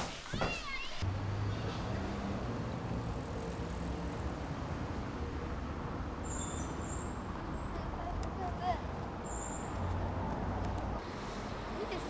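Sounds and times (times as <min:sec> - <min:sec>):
street traffic noise: 0:00.3 - 0:12.0.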